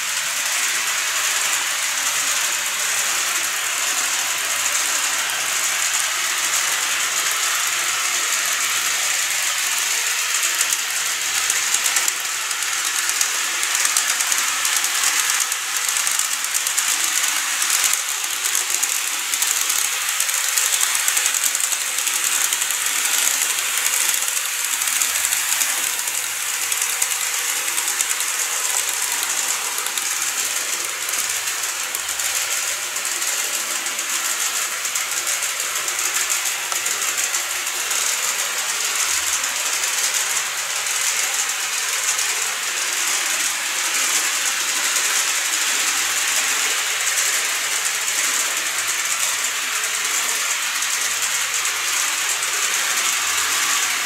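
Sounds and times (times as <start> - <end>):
model trains rattling on track: 0.0 - 54.0
fine rapid ticking: 0.4 - 54.0.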